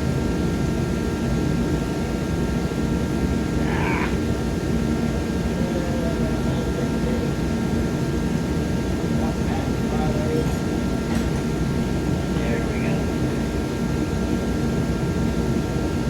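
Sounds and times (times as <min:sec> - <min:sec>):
faint steady hum: 0:01.6 - 0:15.6.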